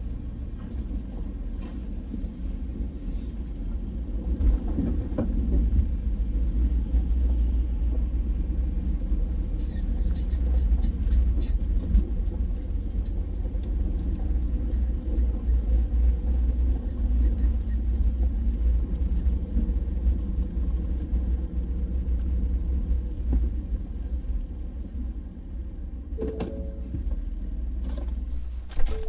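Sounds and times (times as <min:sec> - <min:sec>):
vehicle driving rumble: 0:00.0 - 0:29.0.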